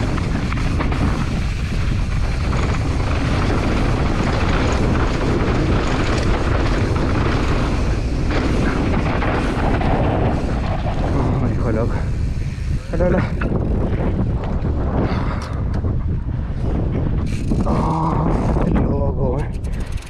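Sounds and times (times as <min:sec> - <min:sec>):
bike tyres rolling on dirt: 0:00.0 - 0:20.0
wind buffeting microphone: 0:00.0 - 0:20.0.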